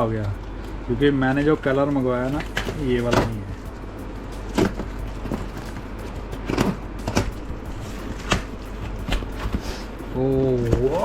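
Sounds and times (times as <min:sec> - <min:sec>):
steady low hum: 0:00.0 - 0:11.0
packaging crinkling and tapping: 0:00.2 - 0:11.0.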